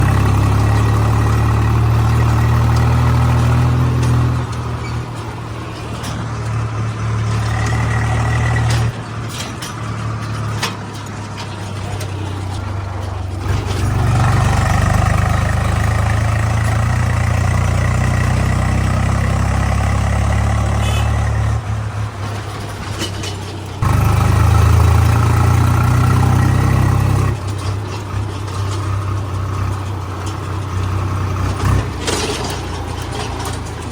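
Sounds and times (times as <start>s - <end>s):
diesel machinery engine droning: 0.0s - 33.9s.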